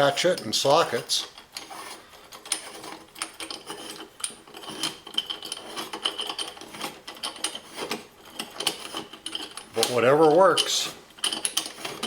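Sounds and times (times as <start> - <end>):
metal rubbing: 0.0 - 12.0.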